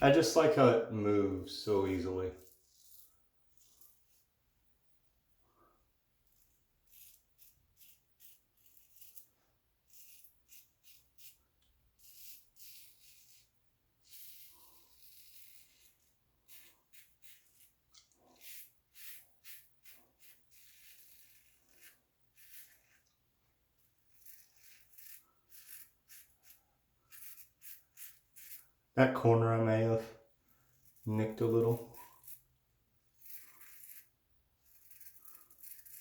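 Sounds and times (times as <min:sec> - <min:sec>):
razor scraping stubble: 0:01.7 - 0:04.3, 0:06.2 - 0:28.8, 0:30.5 - 0:32.5, 0:33.1 - 0:36.0.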